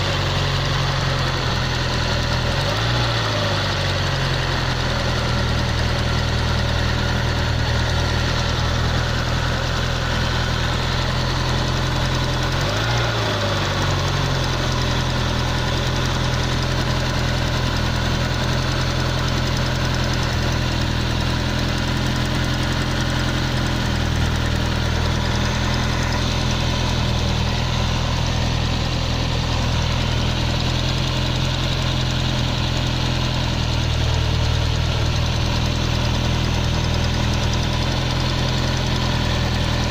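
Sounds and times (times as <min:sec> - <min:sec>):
abnormal engine cylinder noise: 0:00.0 - 0:39.9
car engine idling: 0:00.0 - 0:39.9.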